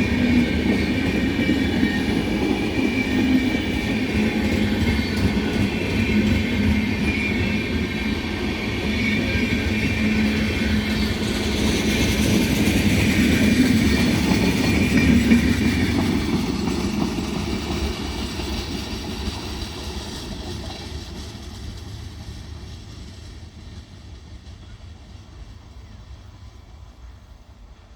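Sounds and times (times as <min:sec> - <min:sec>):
passenger train rolling past: 0:00.0 - 0:27.9.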